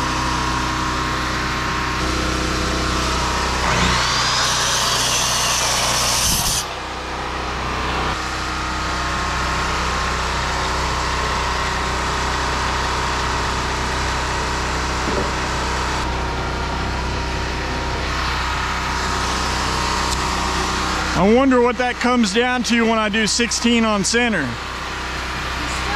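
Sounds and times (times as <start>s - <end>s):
power saw cutting lumber: 0.0s - 25.9s
steady engine hum: 0.0s - 25.9s.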